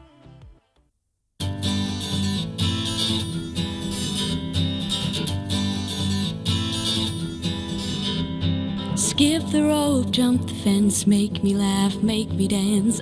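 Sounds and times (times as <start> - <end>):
acoustic guitar music: 1.4 - 13.0.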